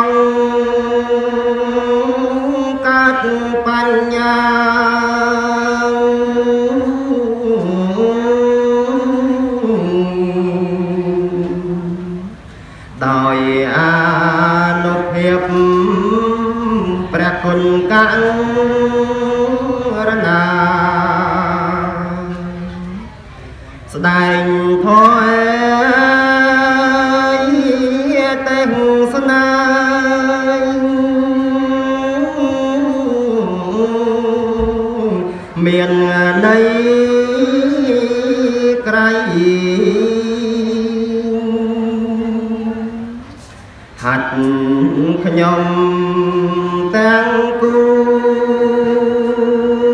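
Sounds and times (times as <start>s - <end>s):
man chanting: 0.0s - 12.4s, 13.0s - 23.2s, 23.9s - 43.2s, 44.0s - 49.9s.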